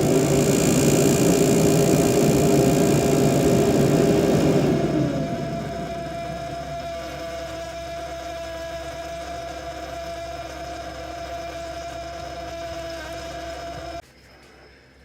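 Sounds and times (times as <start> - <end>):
refrigerator humming whine: 0.0 - 14.0.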